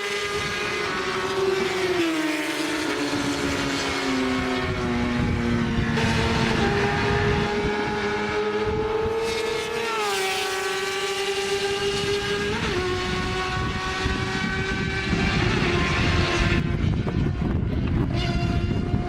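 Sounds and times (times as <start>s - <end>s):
motorcycle engine revving high: 0.0s - 19.0s.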